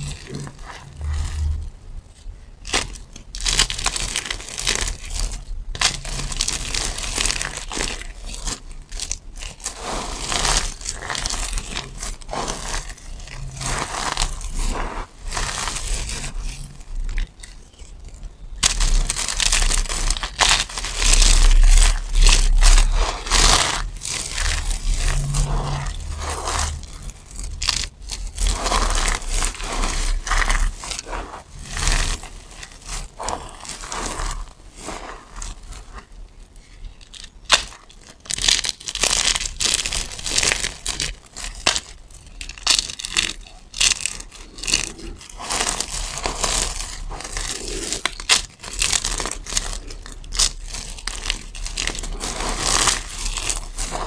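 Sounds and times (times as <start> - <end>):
soap flakes crunching: 0.0 - 54.0.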